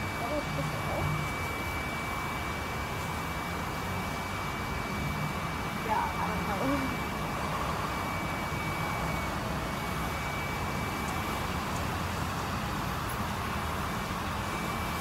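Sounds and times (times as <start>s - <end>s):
city traffic on wet street: 0.0s - 15.0s
faint high whine: 0.0s - 15.0s.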